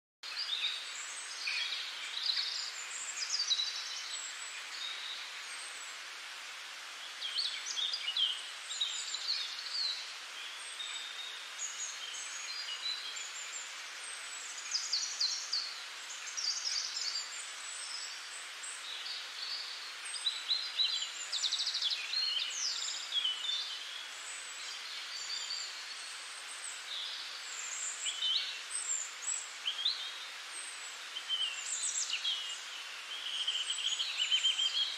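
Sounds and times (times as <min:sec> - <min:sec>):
small birds chirping: 0:00.2 - 0:34.9
steady background hiss: 0:00.2 - 0:34.9.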